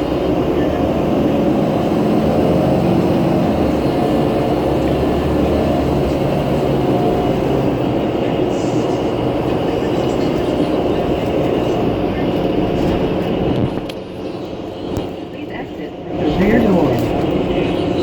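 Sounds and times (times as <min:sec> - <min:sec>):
bus engine drone: 0:00.0 - 0:18.0
road noise: 0:00.0 - 0:18.0.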